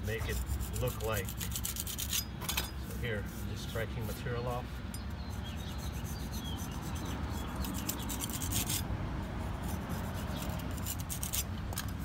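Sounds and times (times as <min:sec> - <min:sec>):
hand tool scraping mortar: 0:00.0 - 0:04.5, 0:05.2 - 0:08.8, 0:09.6 - 0:12.0.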